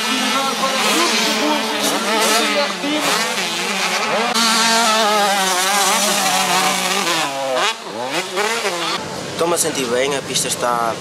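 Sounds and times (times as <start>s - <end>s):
motocross bike engine revving: 0.0s - 9.3s.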